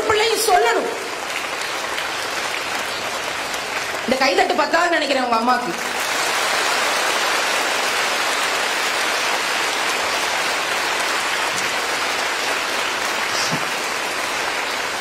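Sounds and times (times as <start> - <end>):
audience applauding: 1.0 - 4.7, 5.6 - 15.0.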